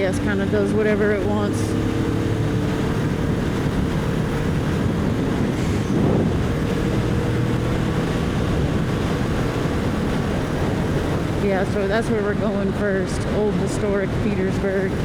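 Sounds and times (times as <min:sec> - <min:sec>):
motorcycle engine droning: 0:00.0 - 0:15.0
wind rushing over microphone: 0:00.0 - 0:15.0.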